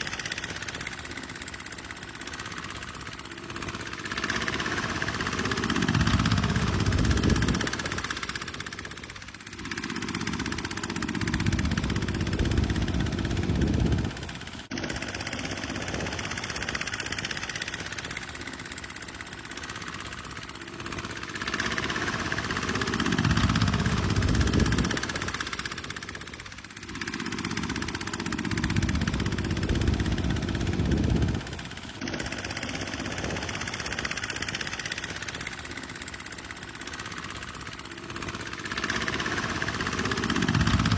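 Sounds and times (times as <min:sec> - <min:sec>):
tractor engine working: 0:00.0 - 0:40.9.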